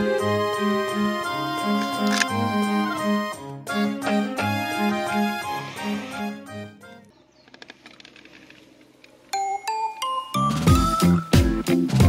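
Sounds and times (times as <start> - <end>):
light instrumental tune: 0.0 - 7.1, 9.3 - 12.0.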